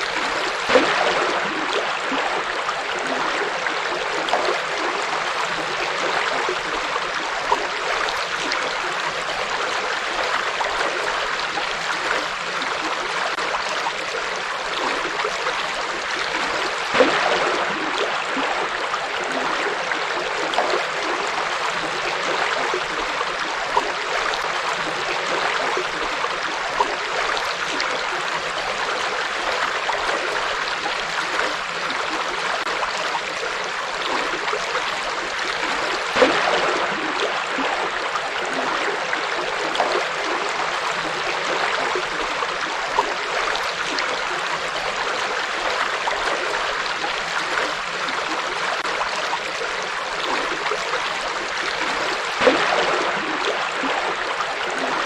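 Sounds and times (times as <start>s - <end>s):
river water flowing over rocks: 0.0s - 55.0s
water splash: 0.0s - 55.0s.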